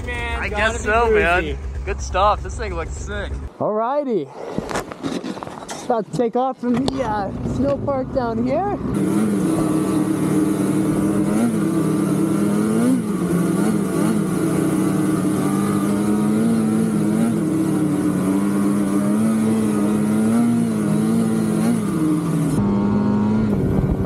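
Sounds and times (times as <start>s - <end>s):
snowmobile engine running: 0.0s - 3.5s, 6.6s - 24.0s.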